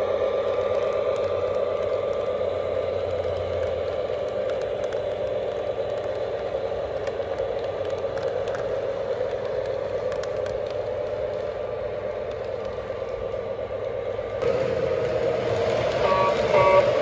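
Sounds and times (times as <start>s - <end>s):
model train motor hum: 0.0s - 17.0s.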